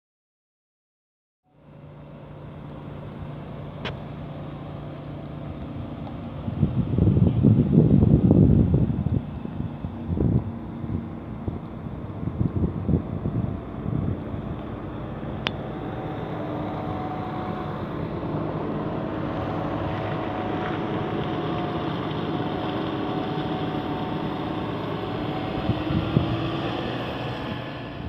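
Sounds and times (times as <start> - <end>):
diesel engine running: 1.5 - 28.0.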